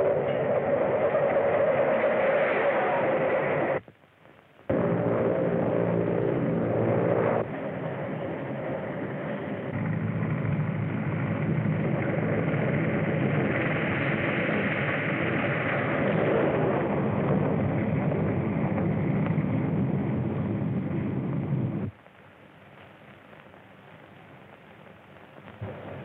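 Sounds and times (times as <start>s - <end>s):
muffled vehicle engine noise: 0.0s - 22.0s.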